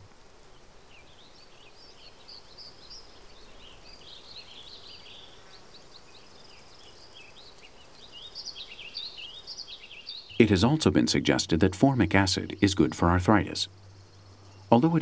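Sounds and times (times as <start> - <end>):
low steady hiss: 0.0 - 15.0
small birds chirping: 0.0 - 15.0.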